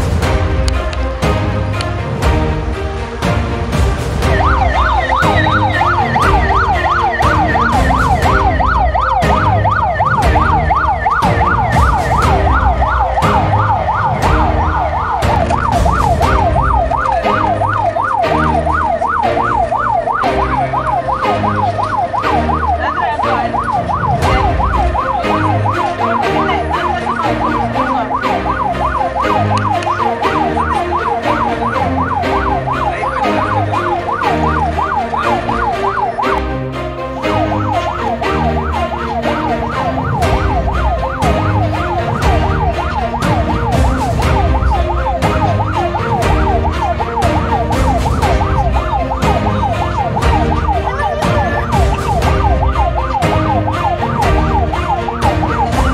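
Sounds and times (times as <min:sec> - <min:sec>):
background music with beat: 0:00.0 - 0:55.9
ambulance siren yelping: 0:03.7 - 0:55.9.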